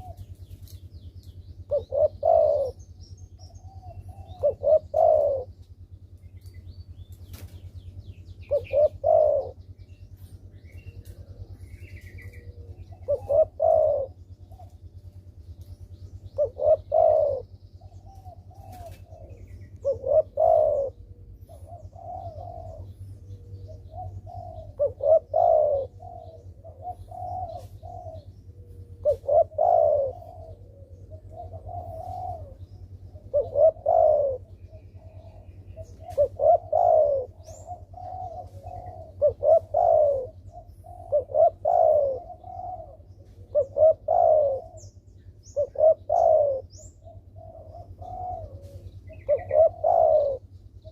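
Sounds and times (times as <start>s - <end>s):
dove cooing: 0.0s - 50.9s
low steady hum: 0.0s - 50.9s
small bird chirping: 0.0s - 50.9s.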